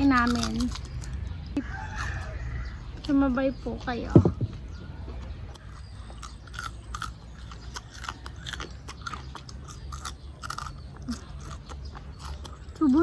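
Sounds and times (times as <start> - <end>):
person chewing: 0.0 - 2.4, 4.5 - 13.0.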